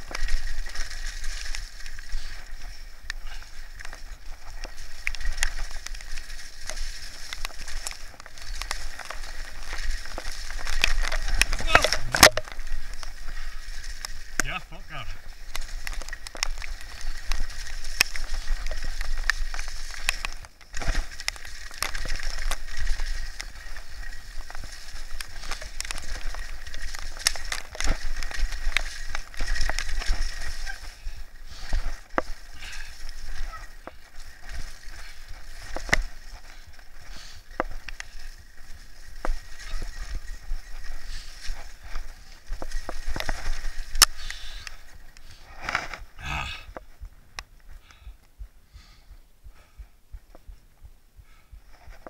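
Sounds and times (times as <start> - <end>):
bike chain and frame rattling: 0.0 - 47.1
tyres on dirt trail: 0.0 - 52.0.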